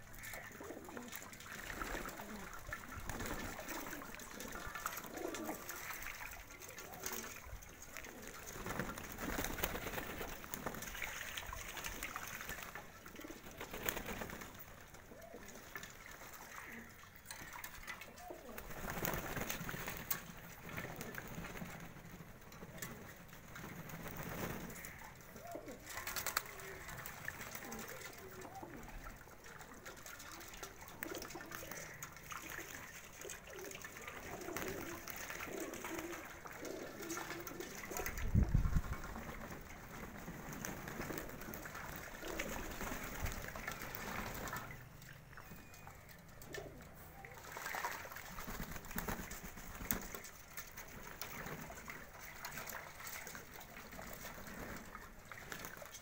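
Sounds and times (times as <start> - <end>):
pigeons cooing: 0.0 - 50.2
water splashing: 0.0 - 56.0
wings flapping: 0.2 - 45.1, 46.5 - 56.0.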